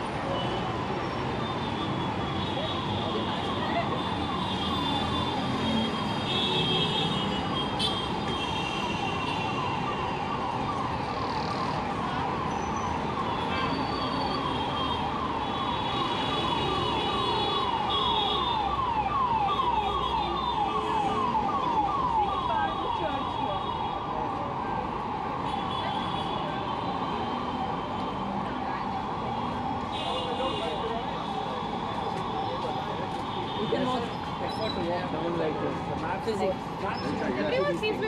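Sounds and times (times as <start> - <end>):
city traffic noise: 0.0 - 38.0.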